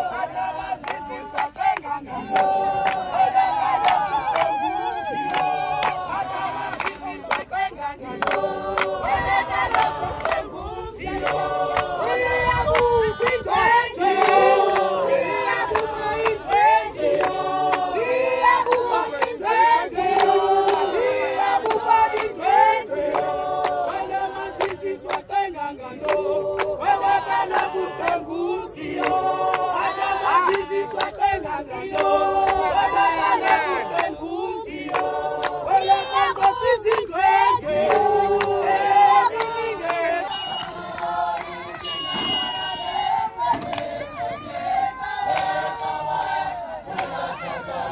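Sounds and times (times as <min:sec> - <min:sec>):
crowd singing together: 0:00.0 - 0:47.9.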